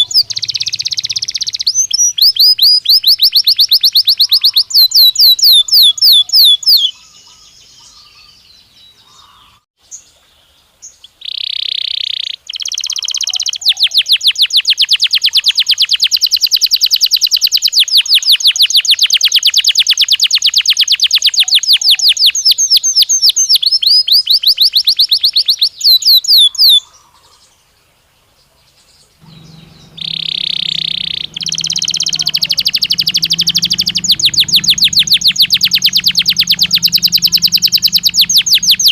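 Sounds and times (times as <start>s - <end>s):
canary singing trills: 0.0s - 9.6s, 10.8s - 27.2s, 29.2s - 38.9s.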